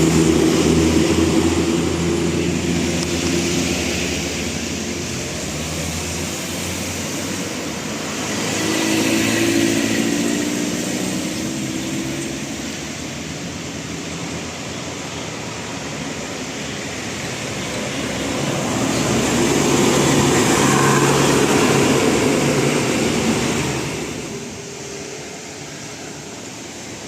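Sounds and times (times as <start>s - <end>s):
bus driving past: 0.0s - 27.0s.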